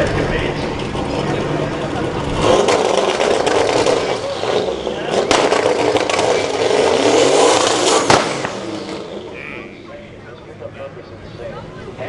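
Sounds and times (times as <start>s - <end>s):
car engine revving: 0.0s - 12.0s
heavy rush of noise: 0.0s - 12.0s.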